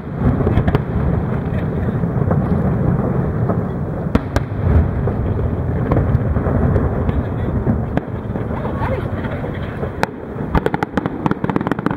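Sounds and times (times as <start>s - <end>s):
fireworks rumbling: 0.0s - 11.9s
sharp firework bangs: 0.0s - 11.9s.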